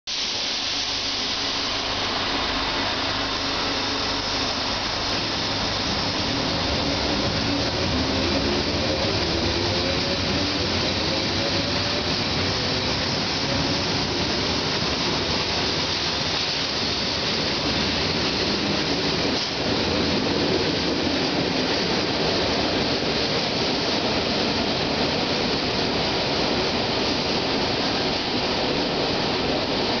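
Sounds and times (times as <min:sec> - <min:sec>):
electric train rumble and hiss: 0:00.1 - 0:30.0
train whine rising in pitch: 0:00.2 - 0:30.0.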